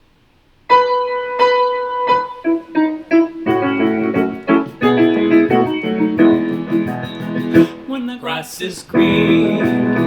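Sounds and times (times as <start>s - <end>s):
keyboard notes and chords: 0.7s - 8.0s, 9.0s - 10.0s.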